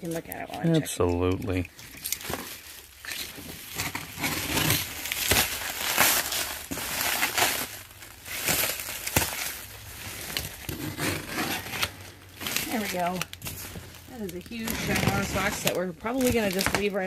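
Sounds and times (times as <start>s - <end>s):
plastic wrap crinkling: 0.0s - 17.0s.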